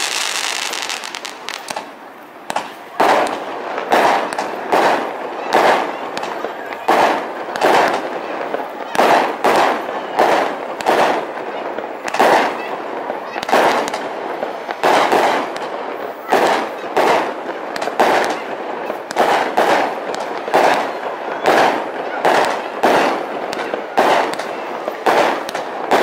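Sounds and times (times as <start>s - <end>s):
fireworks bursting with rumble: 0.0s - 26.0s.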